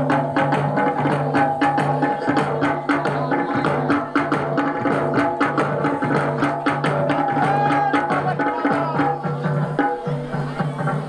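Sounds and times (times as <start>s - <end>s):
fast folk drumbeats: 0.0s - 11.0s.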